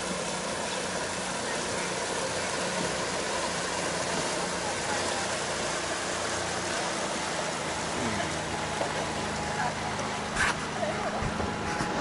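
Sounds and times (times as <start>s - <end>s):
boat motor running: 0.0s - 12.0s
river water rushing: 0.0s - 12.0s.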